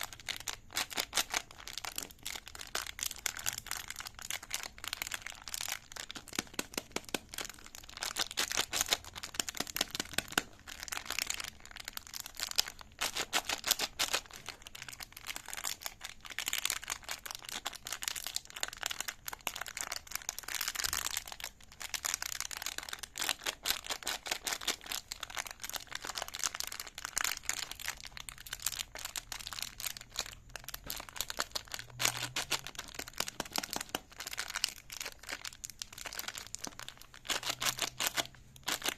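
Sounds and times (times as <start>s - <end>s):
plastic wrapper crackling: 0.0s - 38.9s.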